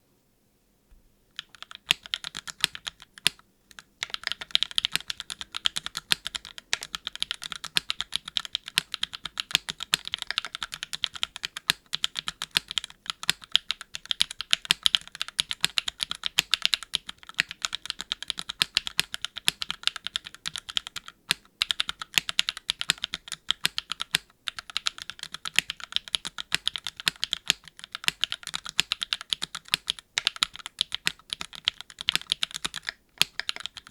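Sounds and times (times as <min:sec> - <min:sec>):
mechanical keyboard typing: 0:01.4 - 0:33.9.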